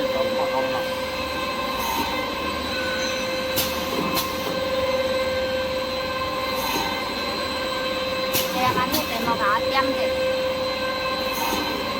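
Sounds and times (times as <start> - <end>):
machinery humming with a whine: 0.0 - 11.9.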